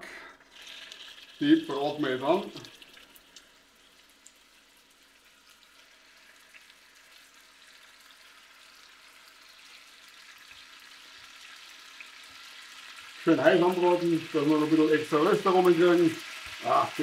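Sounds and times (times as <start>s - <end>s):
meat sizzling in oil: 0.5s - 17.0s.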